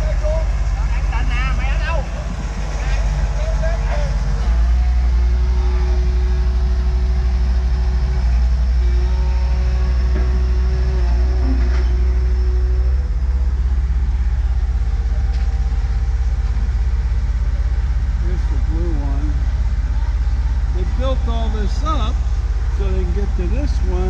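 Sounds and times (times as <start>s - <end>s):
excavator engine running hard: 0.0s - 24.0s.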